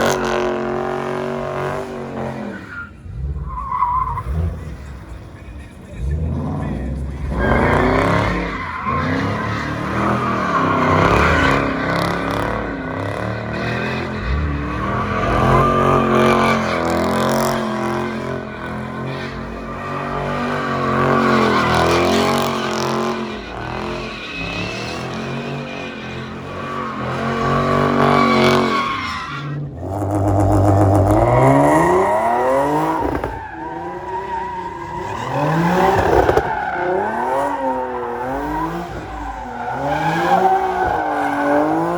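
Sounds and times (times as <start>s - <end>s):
car engine revving: 0.0s - 41.9s
tyres squealing: 6.0s - 29.6s, 30.6s - 41.9s.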